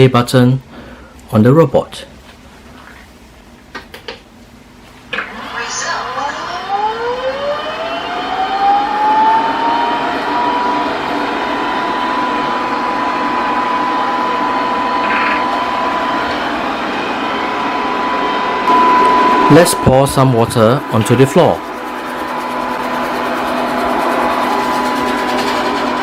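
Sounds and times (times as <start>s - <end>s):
robot vacuum whining: 5.2s - 26.0s.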